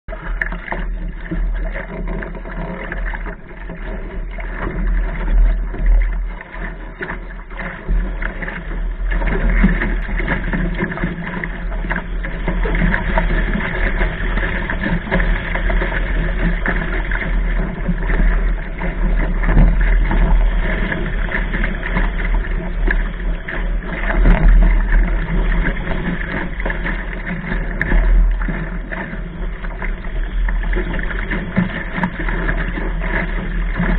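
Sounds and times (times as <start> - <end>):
water rushing along hull: 0.1 - 33.9.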